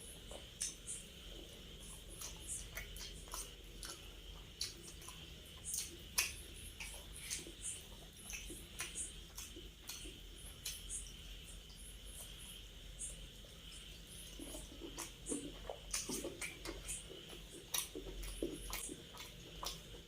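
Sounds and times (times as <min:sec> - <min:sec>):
person chewing with wet mouth clicks: 0:00.2 - 0:01.0, 0:01.8 - 0:12.4, 0:14.2 - 0:20.0.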